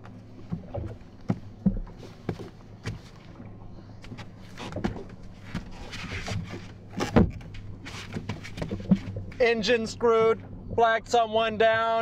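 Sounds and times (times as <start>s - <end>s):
knocks and clatter on boat engine: 0.0s - 12.0s
low steady hum: 0.0s - 12.0s.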